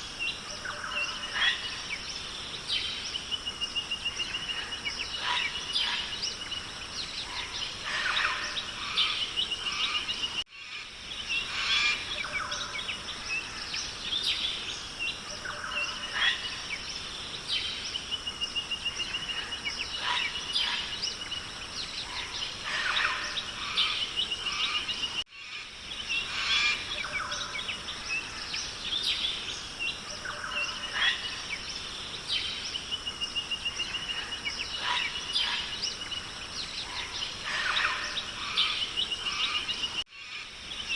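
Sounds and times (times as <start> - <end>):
birds calling and chirping: 0.0 - 40.9.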